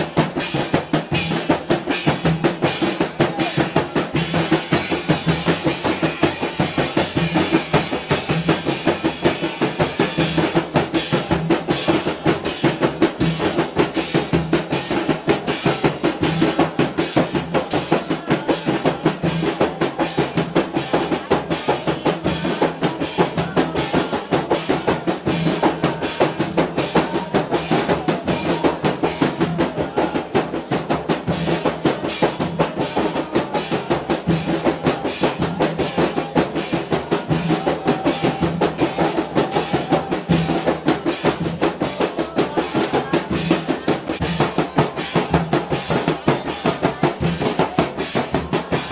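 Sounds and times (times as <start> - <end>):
drum played with sticks: 0.0 - 48.9
hand drums beating fast rhythm: 0.0 - 48.9.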